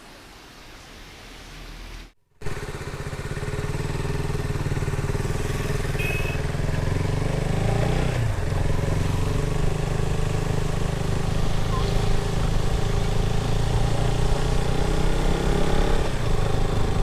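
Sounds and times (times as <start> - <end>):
motorcycle engine running: 2.4 - 17.0.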